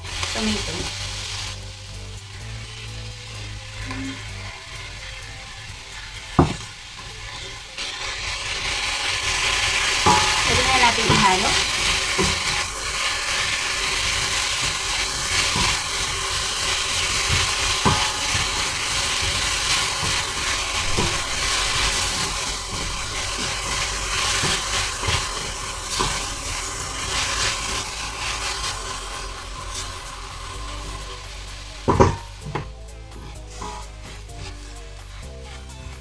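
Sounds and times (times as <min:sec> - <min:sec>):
meat sizzling in a pot: 0:00.0 - 0:36.0
spatula scraping a pot: 0:02.2 - 0:36.0.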